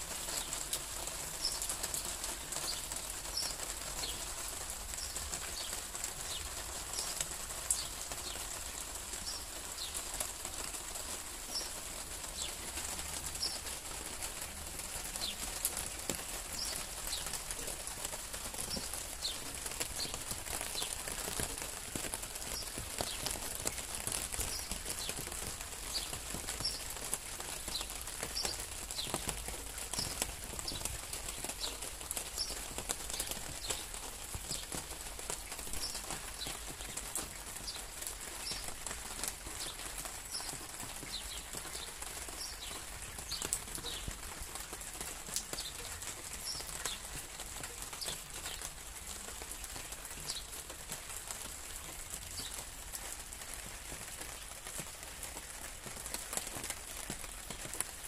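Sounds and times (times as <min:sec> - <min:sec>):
raindrops tapping: 0:00.0 - 0:58.0
steady rain: 0:00.0 - 0:58.0.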